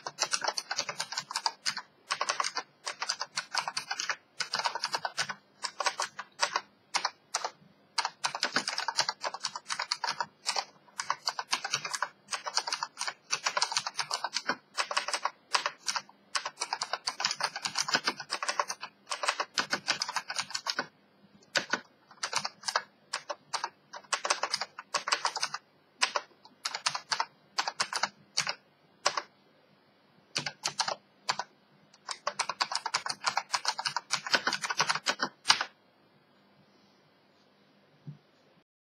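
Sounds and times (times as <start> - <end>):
keyboard keystrokes clicking: 0.0 - 20.9, 21.5 - 29.3, 30.4 - 35.8.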